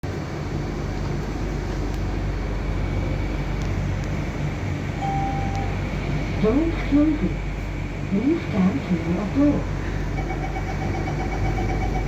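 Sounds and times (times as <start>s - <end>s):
train car humming and rumbling: 0.0s - 12.0s.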